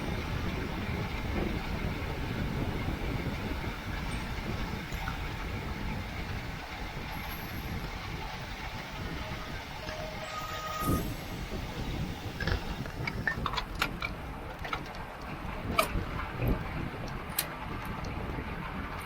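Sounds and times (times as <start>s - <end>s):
bicycle road noise: 0.0s - 19.0s
wind buffeting microphone: 0.0s - 19.0s.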